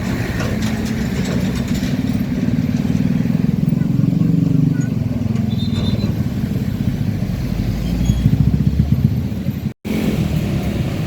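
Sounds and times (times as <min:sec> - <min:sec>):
diesel truck engine pulsing: 0:00.0 - 0:11.0.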